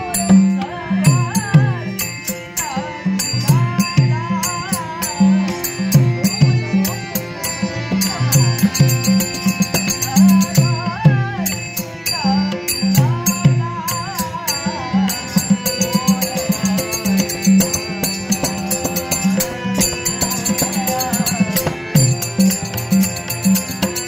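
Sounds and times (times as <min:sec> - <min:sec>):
harmonium: 0:00.0 - 0:24.0
man singing: 0:00.0 - 0:24.0
small hand cymbals: 0:02.0 - 0:10.8, 0:11.4 - 0:24.0.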